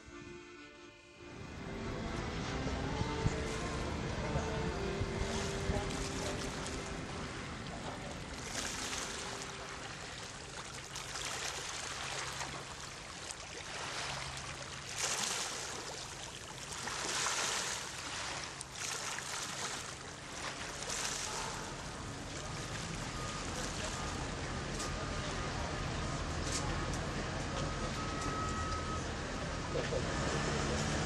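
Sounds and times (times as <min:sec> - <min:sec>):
water lapping: 0:01.4 - 0:28.2.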